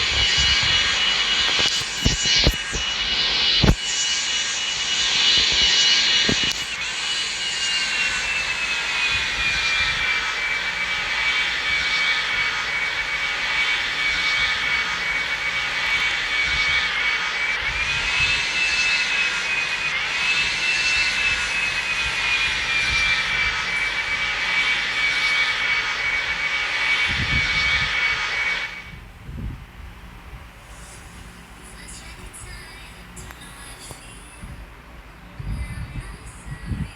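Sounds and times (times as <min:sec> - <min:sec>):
jet engines whining: 0:00.0 - 0:36.9.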